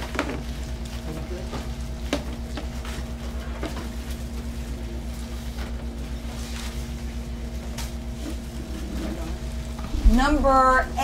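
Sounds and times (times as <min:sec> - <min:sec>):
low hum with pulsing rumble: 0:00.0 - 0:11.0.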